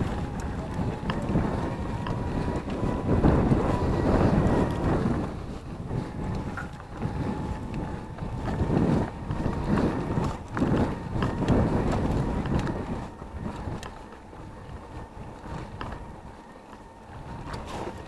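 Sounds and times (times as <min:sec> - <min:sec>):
bike clicks and rattles: 0:00.0 - 0:18.0
faint steady whine: 0:00.0 - 0:18.0
wind buffeting microphone: 0:00.0 - 0:18.0.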